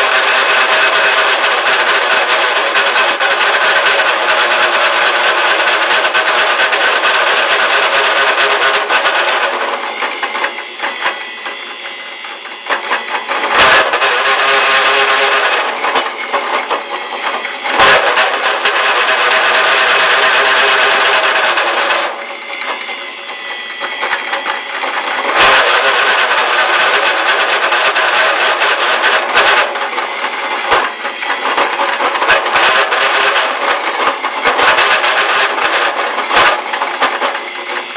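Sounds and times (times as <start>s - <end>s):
metal lathe cutting metal: 0.0s - 37.9s.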